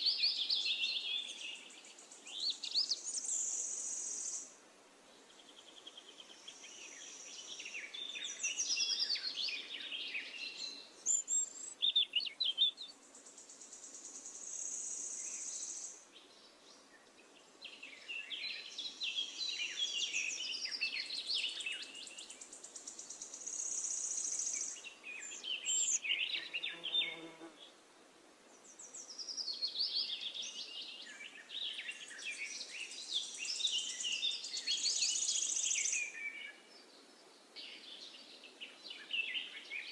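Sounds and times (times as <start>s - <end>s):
birds chirping and trilling: 5.2s - 27.5s, 28.6s - 39.9s.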